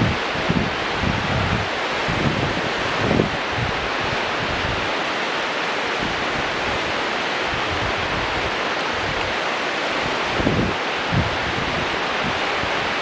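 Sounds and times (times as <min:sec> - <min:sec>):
river rapids rushing: 0:00.0 - 0:13.0
wind buffeting microphone: 0:00.0 - 0:13.0.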